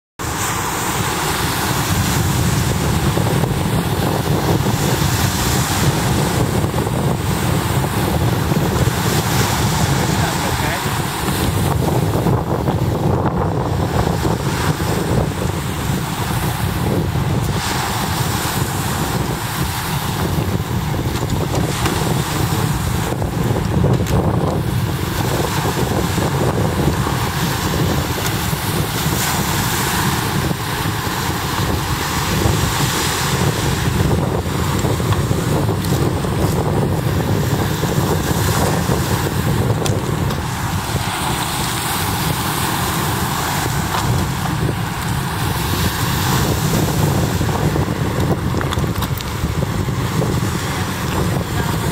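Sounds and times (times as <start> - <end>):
waves breaking on pebbles: 0.2 - 51.9
wind buffeting microphone: 0.2 - 51.9.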